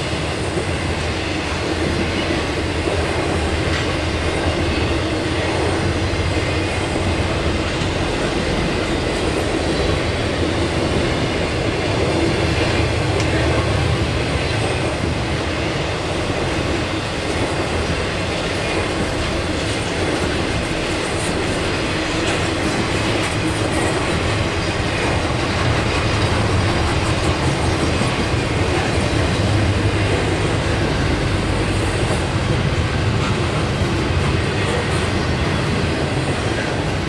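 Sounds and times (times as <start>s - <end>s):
freight cars rumbling and rattling: 0.0s - 37.0s.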